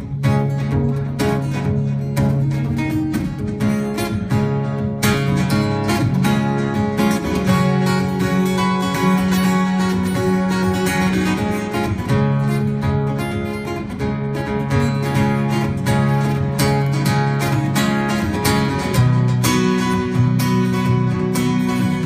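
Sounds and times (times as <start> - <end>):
strummed guitar chords: 0.0 - 22.0.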